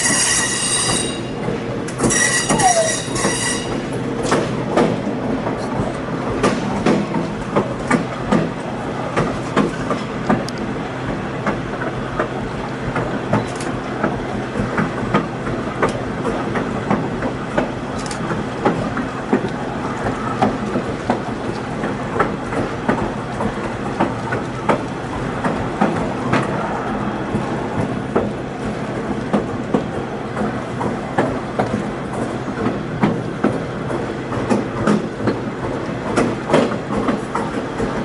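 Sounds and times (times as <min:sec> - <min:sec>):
train rumble: 0:00.0 - 0:38.0
wheels clacking over rails: 0:00.0 - 0:38.0.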